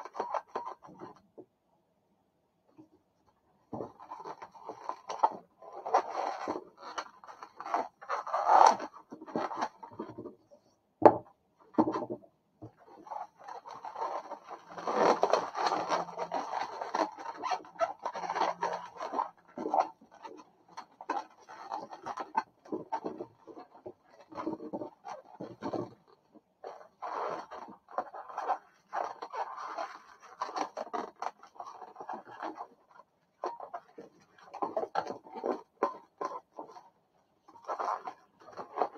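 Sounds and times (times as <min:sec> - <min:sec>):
balloons rubbing and scraping: 0:03.7 - 0:10.7, 0:12.7 - 0:38.9.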